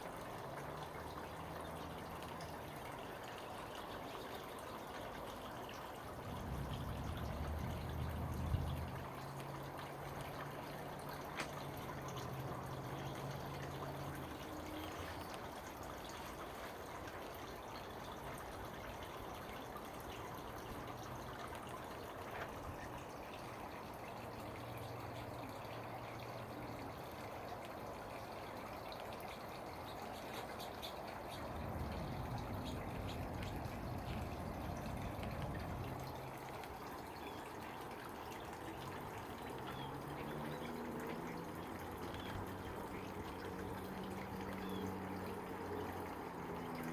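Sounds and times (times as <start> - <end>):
water trickling and dripping: 0.0 - 46.9.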